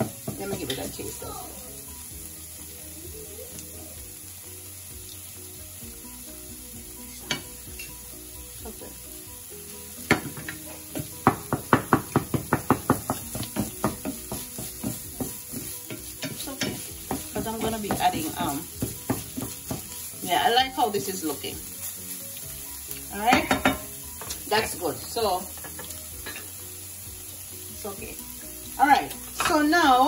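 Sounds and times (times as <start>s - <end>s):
meat sizzling in frying pan: 0.0s - 30.0s.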